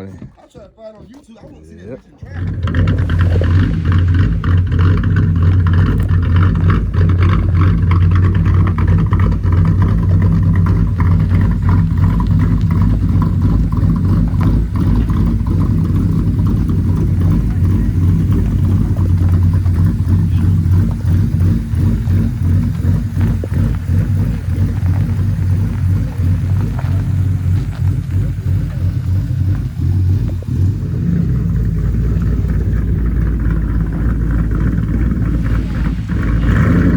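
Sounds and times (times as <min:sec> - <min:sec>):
car engine droning: 0:02.2 - 0:36.9.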